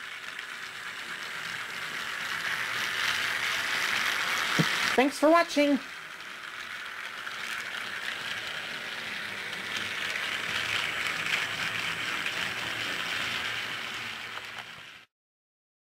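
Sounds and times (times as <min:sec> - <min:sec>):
wheels rattling over rail joints: 0:00.0 - 0:15.0
toy train motor whirring: 0:00.0 - 0:15.1.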